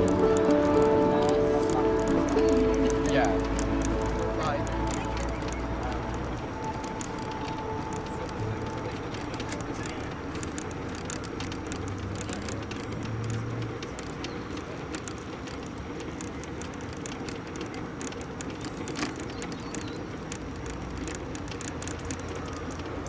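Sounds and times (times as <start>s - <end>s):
mobility scooter motor hum: 0.0s - 23.0s.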